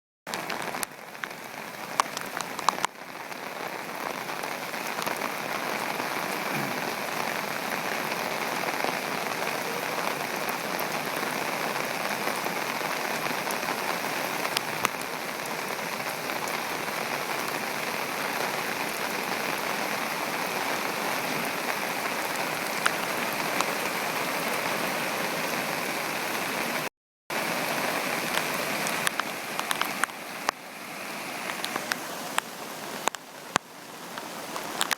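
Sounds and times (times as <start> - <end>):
heavy rain falling: 0.3 - 34.9.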